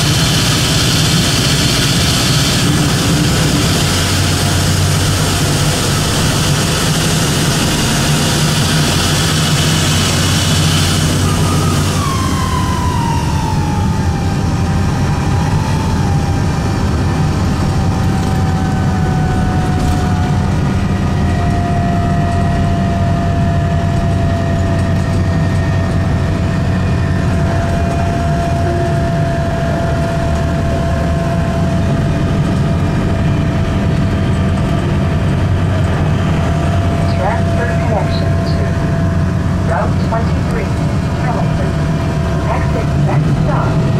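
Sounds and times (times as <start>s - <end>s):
diesel engine rumbling: 0.0s - 43.9s
high engine whine: 0.0s - 43.9s.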